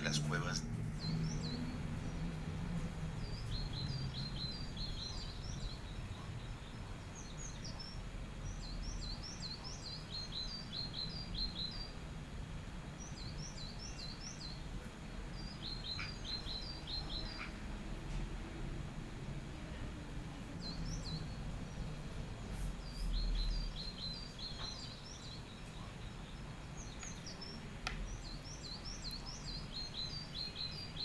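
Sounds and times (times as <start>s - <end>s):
small bird chirping: 0.0s - 12.1s, 12.8s - 17.8s, 20.5s - 31.0s
low background rumble: 0.0s - 30.7s.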